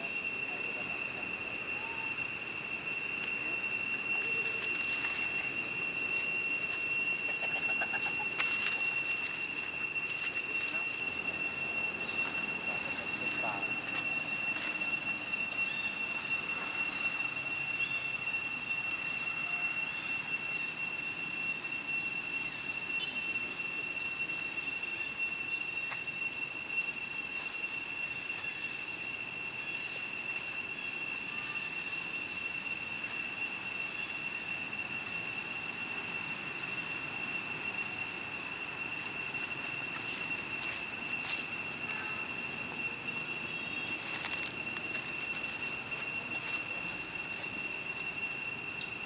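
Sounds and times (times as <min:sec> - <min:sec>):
insects droning: 0:00.0 - 0:49.0.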